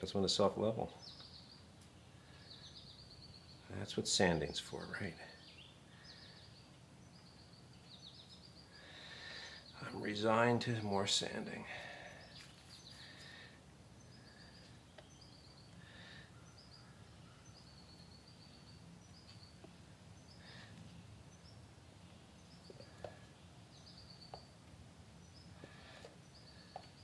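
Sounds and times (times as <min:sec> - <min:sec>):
bird chirping: 0:00.0 - 0:27.0
low steady hum: 0:00.0 - 0:27.0.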